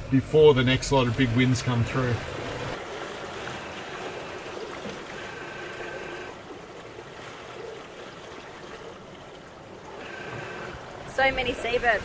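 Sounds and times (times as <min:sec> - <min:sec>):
water rushing along boat hull: 0:00.0 - 0:12.0.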